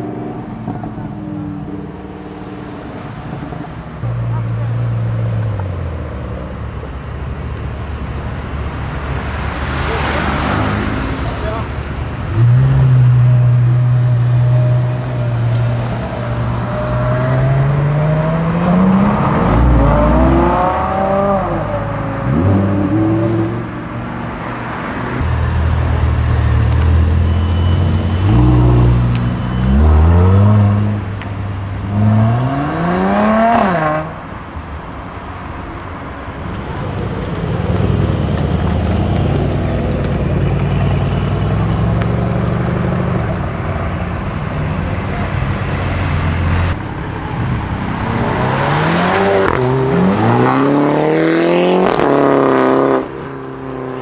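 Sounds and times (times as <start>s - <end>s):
car passing: 0.0s - 54.0s
cars accelerating with revving engines: 8.4s - 34.3s, 36.4s - 54.0s.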